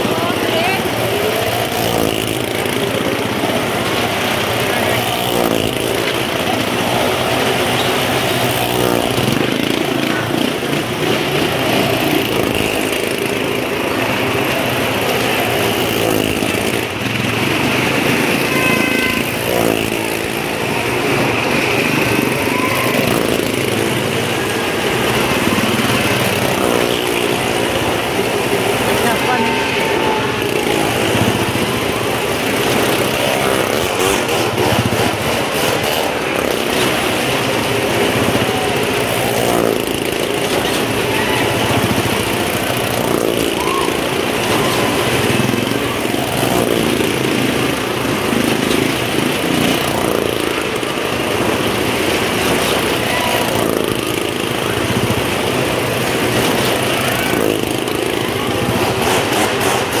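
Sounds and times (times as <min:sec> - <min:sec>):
motorcycle and car engines revving: 0:00.0 - 1:00.0.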